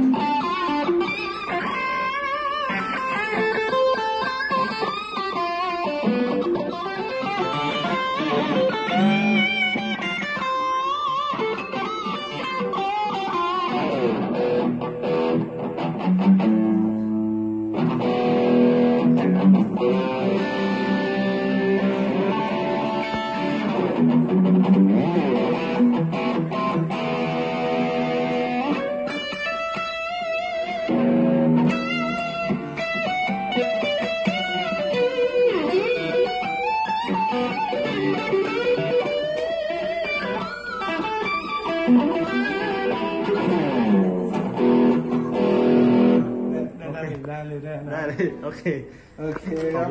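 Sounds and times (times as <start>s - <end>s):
overdriven electric guitar: 0.0s - 47.2s.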